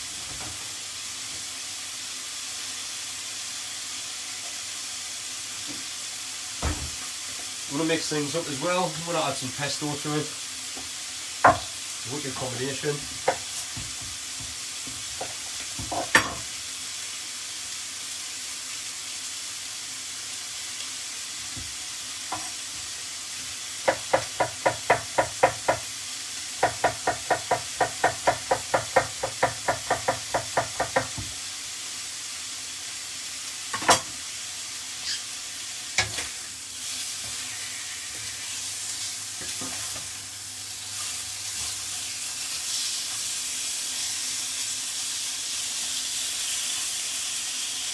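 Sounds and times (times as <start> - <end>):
chicken sizzling in a frying pan: 0.0 - 47.9.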